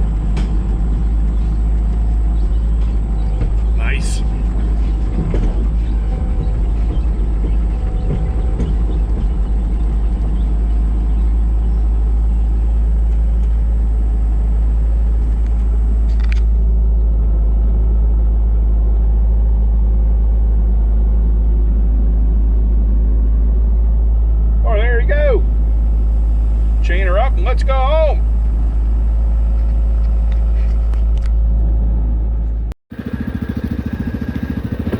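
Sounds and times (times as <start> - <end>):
heavy diesel engine rumbling: 0.0 - 34.9.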